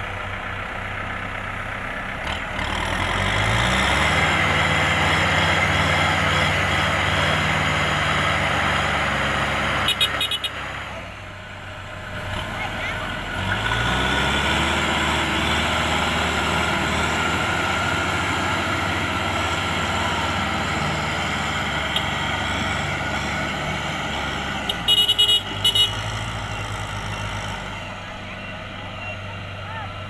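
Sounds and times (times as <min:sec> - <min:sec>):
farm machinery engines running: 0:00.0 - 0:30.0.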